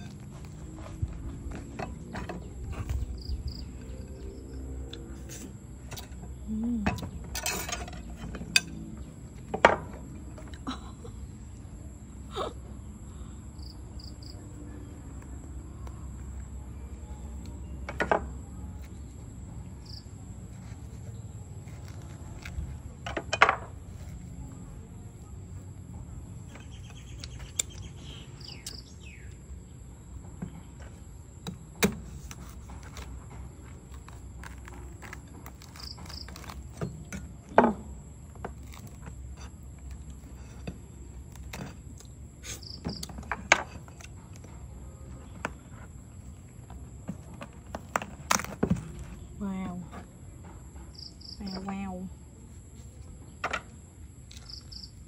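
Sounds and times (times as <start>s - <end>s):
crickets droning: 0.0s - 55.0s.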